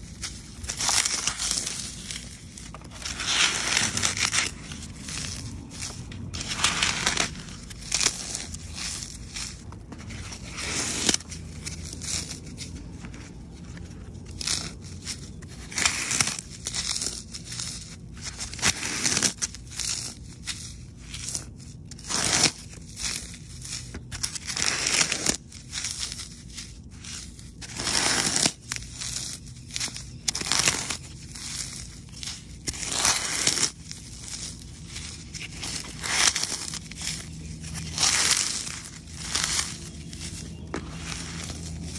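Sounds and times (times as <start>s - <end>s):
wet foam crunching: 0.0s - 41.9s.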